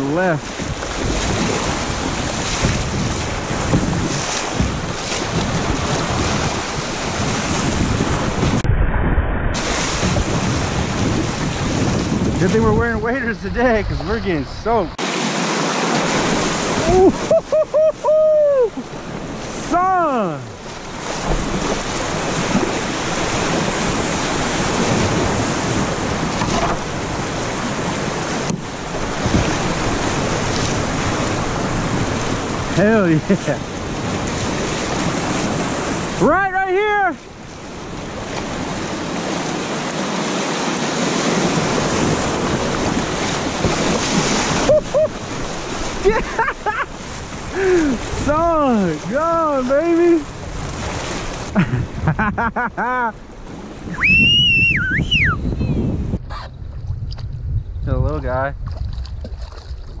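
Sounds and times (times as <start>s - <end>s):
wind buffeting the microphone: 0.0s - 15.0s, 16.0s - 36.3s, 37.3s - 52.6s, 53.2s - 60.0s
whitewater rushing and splashing: 0.0s - 55.4s.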